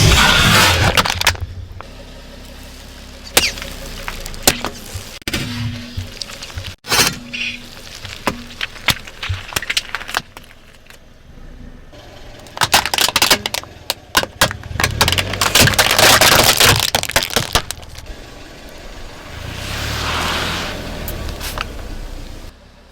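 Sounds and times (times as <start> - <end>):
objects crunching under car tyres: 0.0 - 11.3, 11.9 - 22.6.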